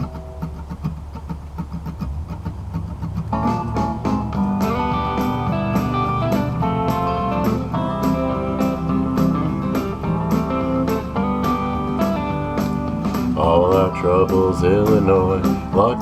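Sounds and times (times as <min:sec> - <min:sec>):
country rock band playing: 0:00.0 - 0:16.0.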